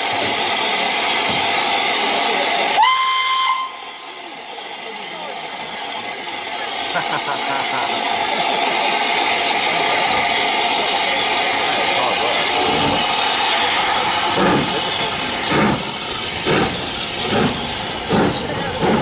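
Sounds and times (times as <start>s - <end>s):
steam hissing: 0.0s - 19.0s
steam locomotive exhaust chuffs: 0.0s - 19.0s.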